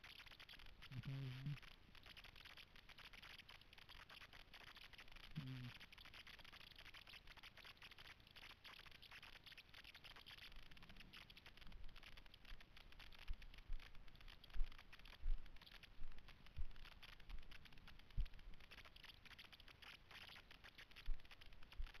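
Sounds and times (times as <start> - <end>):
microphone hiss with crackle: 0.0 - 22.0.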